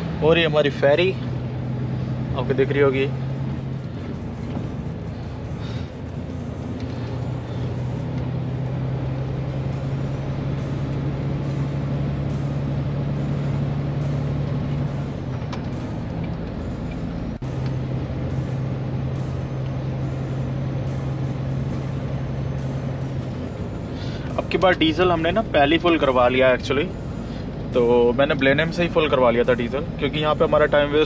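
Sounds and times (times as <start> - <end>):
diesel truck engine drone: 0.0 - 31.0.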